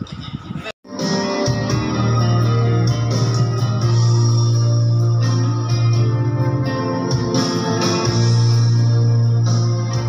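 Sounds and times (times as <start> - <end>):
held instrumental chord: 0.9 - 10.0.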